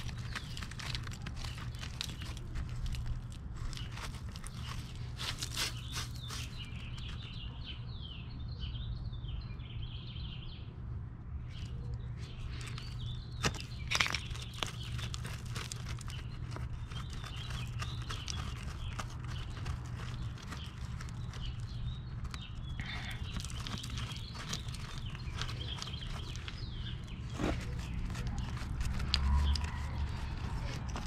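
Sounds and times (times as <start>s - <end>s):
concrete chunks scraping and crunching: 0.0s - 7.3s, 12.2s - 31.0s
birds chirping: 0.0s - 31.0s.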